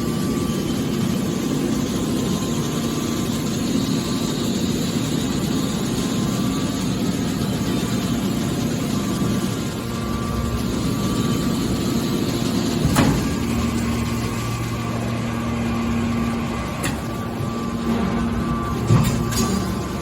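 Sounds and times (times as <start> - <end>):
baler mechanical hum: 0.0 - 20.0.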